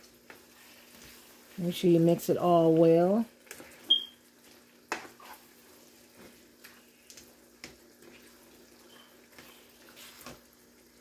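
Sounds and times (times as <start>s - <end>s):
spoon scraping skillet: 0.0s - 2.2s, 3.4s - 10.5s
cooking pan hiss: 0.0s - 11.0s.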